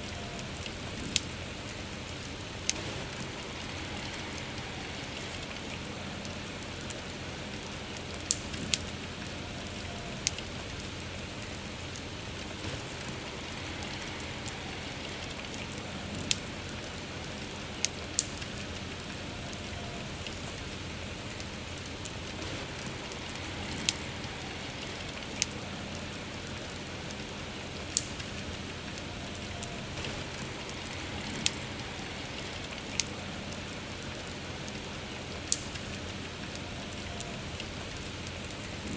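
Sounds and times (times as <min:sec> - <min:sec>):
campfire crackling and popping: 0:00.0 - 0:38.9
rain falling: 0:00.0 - 0:38.9.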